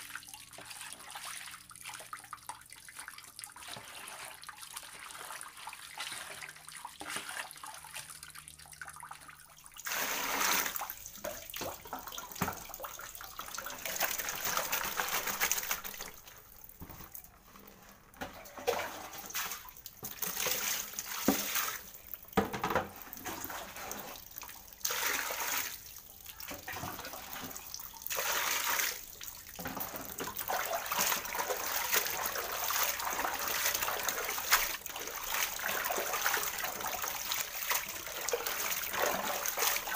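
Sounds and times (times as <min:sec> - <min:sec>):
basin scooping and pouring water: 0:00.0 - 0:39.9
water sloshing in a tub: 0:00.0 - 0:39.9.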